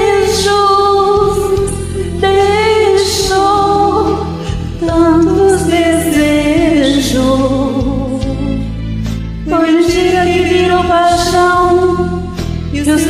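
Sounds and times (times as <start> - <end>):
backing track: 0.0 - 13.0
person singing a slow ballad: 0.0 - 13.0.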